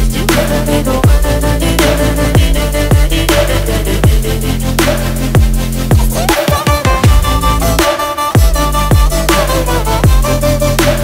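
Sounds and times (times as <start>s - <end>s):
electronic instrumental music: 0.0s - 11.0s
heavy kick drums: 0.0s - 11.0s.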